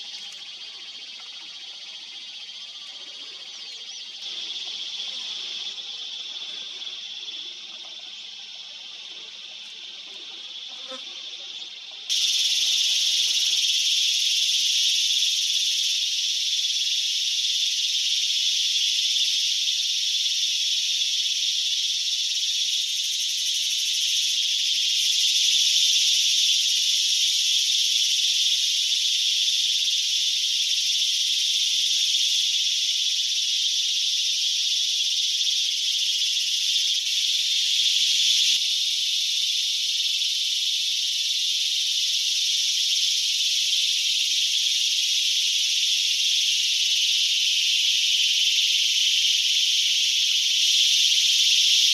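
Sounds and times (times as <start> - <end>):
insects buzzing: 0.0 - 51.9.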